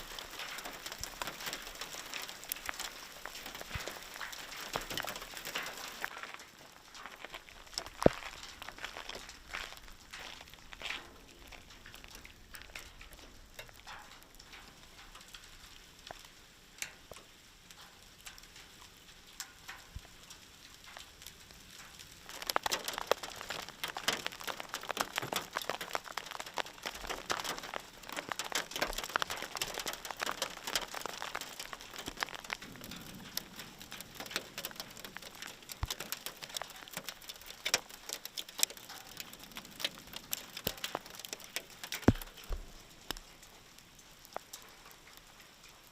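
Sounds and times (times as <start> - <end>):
small stones pattering on surfaces: 0.0 - 18.4, 19.4 - 45.9.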